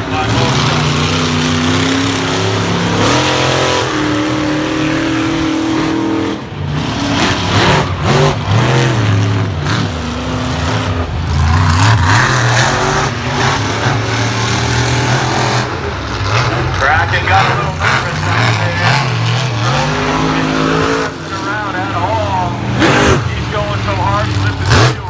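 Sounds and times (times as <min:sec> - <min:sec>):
monster truck engines revving: 0:00.0 - 0:25.0.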